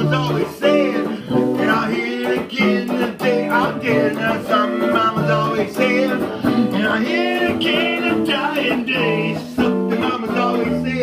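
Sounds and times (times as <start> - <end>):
guitar chords: 0.0 - 11.0
person singing wordless vocals: 0.0 - 11.0.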